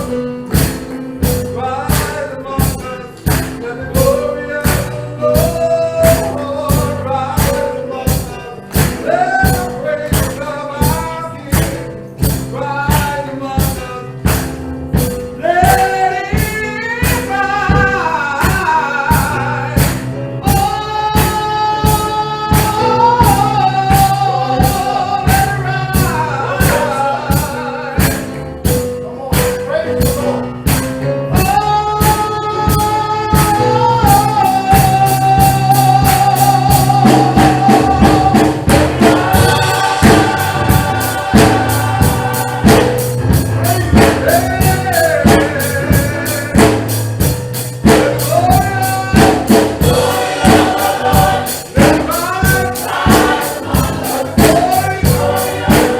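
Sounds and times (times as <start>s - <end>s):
gospel choir singing: 0.0s - 28.9s, 29.8s - 55.9s
instrumental backing: 0.0s - 55.9s
tambourine beat: 0.0s - 55.9s.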